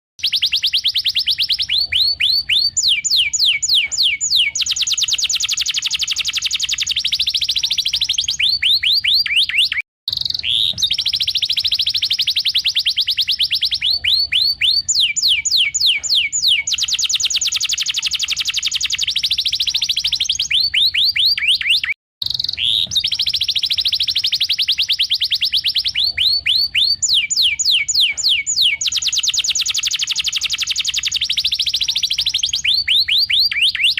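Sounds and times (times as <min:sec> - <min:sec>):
canary singing: 0:00.2 - 0:33.9.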